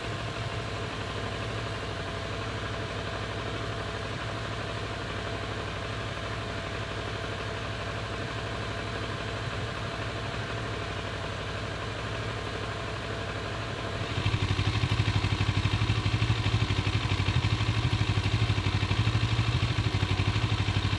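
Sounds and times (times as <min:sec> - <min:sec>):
motorcycle engine idling unevenly: 0:00.0 - 0:20.9.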